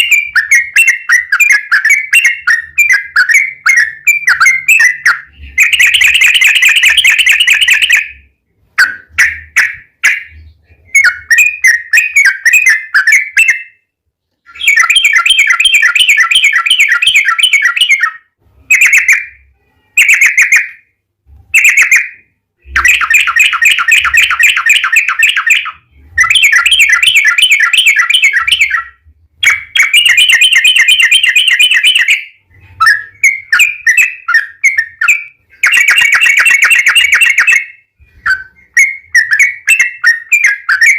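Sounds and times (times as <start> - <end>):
bulbul singing rolling phrases: 0.0 - 40.9.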